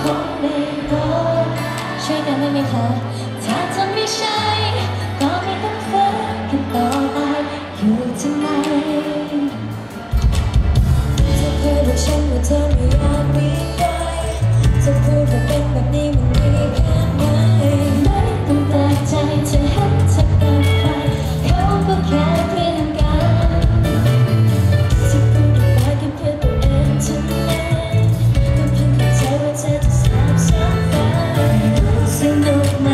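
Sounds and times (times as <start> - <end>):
woman singing into a microphone: 0.0 - 10.0, 11.2 - 32.9
pop music over pa system: 0.0 - 32.9.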